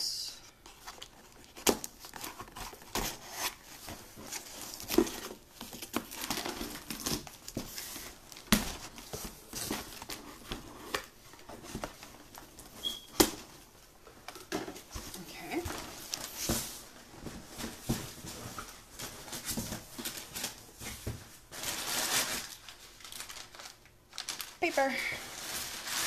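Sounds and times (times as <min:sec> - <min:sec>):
cardboard crinkling and rustling: 0:00.6 - 0:26.0.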